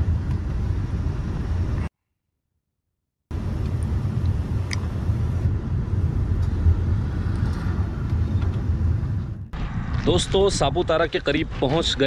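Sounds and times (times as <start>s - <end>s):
car engine and tyre rumble: 0.0s - 1.9s, 3.3s - 12.0s.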